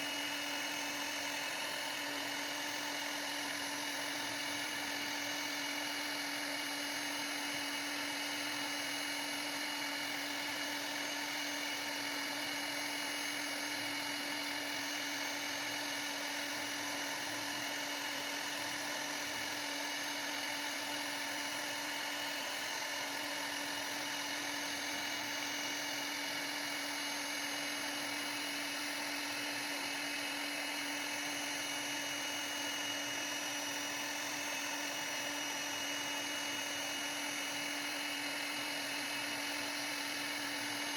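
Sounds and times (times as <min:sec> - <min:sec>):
router spindle whining: 0:00.0 - 0:40.9.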